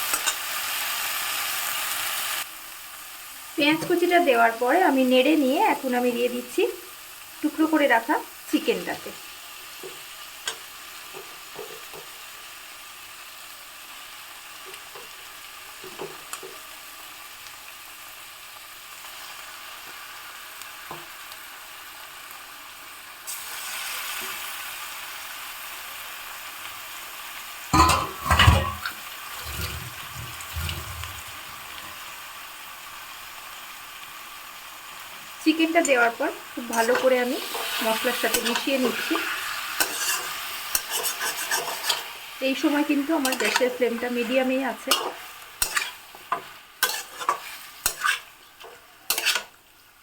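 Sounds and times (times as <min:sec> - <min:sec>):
chicken sizzling in oil: 0:00.0 - 0:50.0.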